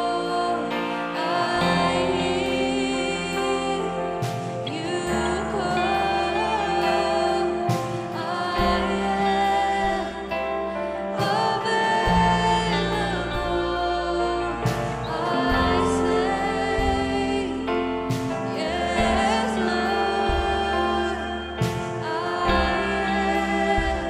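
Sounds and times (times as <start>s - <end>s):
instrumental accompaniment: 0.0s - 24.0s
worship team singing: 0.0s - 24.0s.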